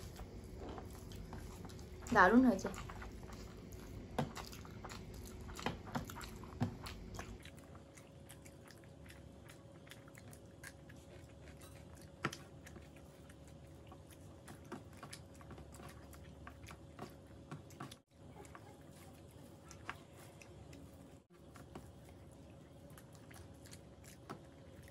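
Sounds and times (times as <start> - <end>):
faint steady hum: 0.0 - 24.9
people chewing and eating: 0.0 - 24.9.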